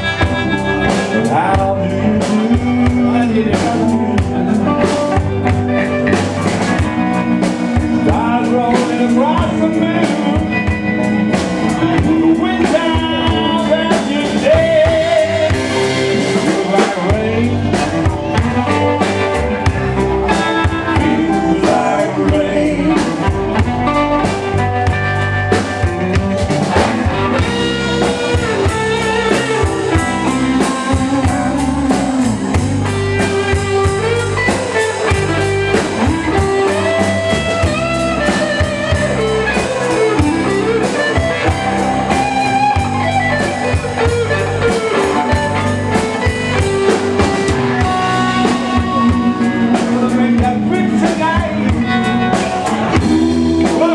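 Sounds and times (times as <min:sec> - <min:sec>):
bass guitar: 0:00.0 - 0:53.9
drum kit: 0:00.0 - 0:53.9
electric guitar: 0:00.0 - 0:53.9
keyboard: 0:00.0 - 0:53.9
person singing: 0:00.0 - 0:53.9.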